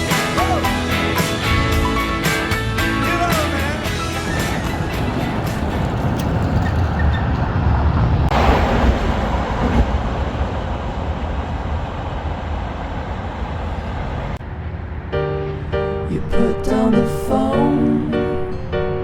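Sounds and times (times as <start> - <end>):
moving vehicle rumble: 0.0 - 16.9
rush of noise: 0.0 - 16.9.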